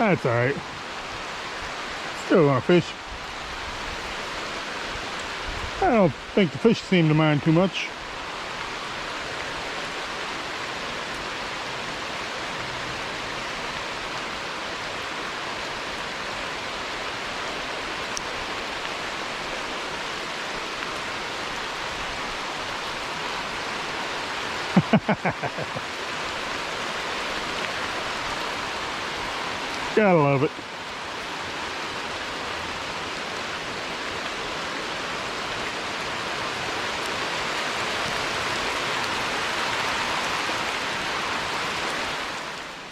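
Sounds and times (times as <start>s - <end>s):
creek water flowing: 0.0s - 42.9s
heavy rain falling: 0.0s - 42.9s.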